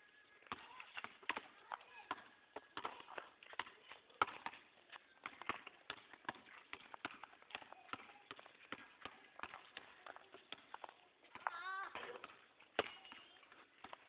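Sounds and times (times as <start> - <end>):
basketball bouncing on concrete: 0.4 - 14.0.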